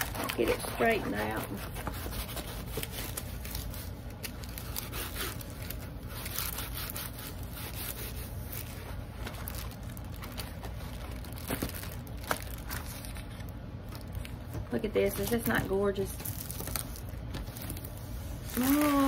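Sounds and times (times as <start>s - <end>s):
canvas crinkling and rustling: 0.0s - 19.0s.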